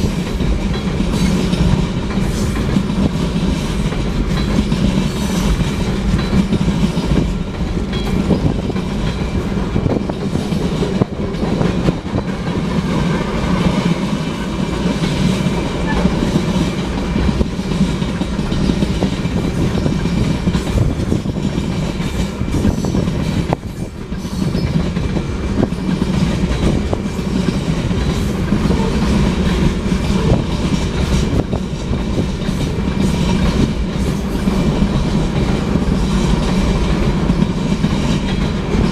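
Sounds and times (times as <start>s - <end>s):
train wheels clattering over rail joints: 0.0s - 38.9s.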